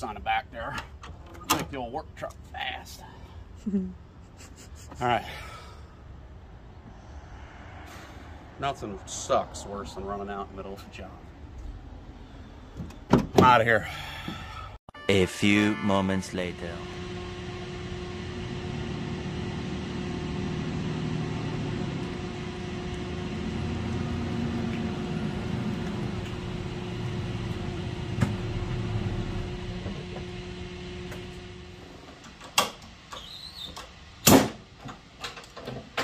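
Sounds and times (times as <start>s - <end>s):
truck engine and road noise: 0.0s - 14.6s, 15.2s - 36.0s.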